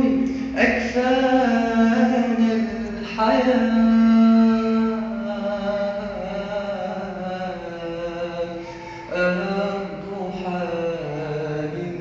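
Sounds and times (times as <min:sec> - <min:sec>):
solo voice singing: 0:00.0 - 0:12.0.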